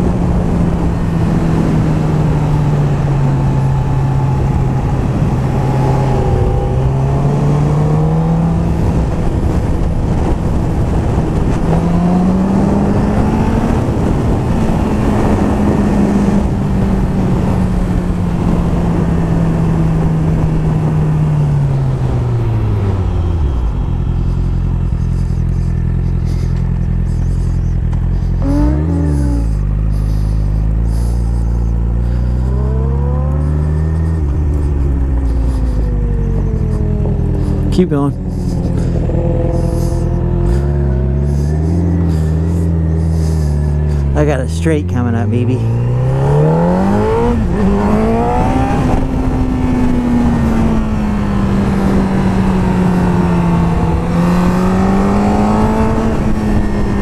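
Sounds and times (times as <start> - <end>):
vehicle engine revving: 0.0 - 57.0
wind noise: 0.0 - 57.0.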